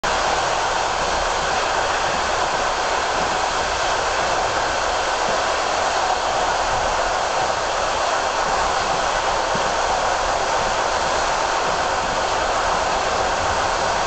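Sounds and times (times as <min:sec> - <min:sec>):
train rushing noise from inside: 0:00.0 - 0:14.0.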